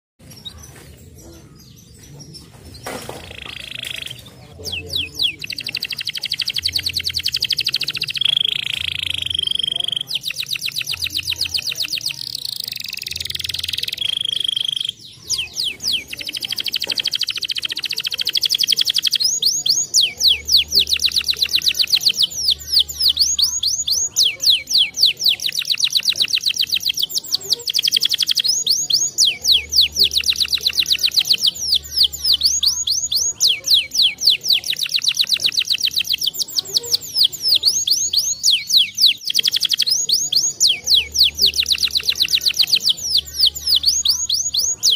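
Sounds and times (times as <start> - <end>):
canary singing trills: 0.2 - 44.9.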